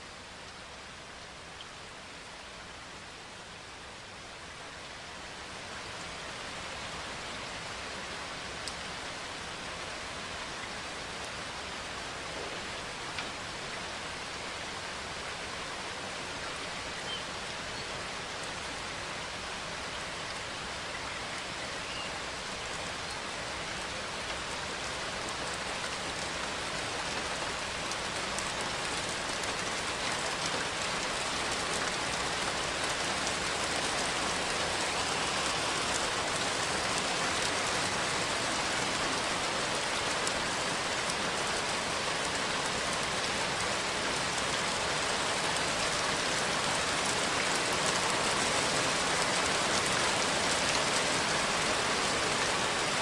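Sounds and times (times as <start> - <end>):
rain pattering on a surface: 0.0 - 53.0.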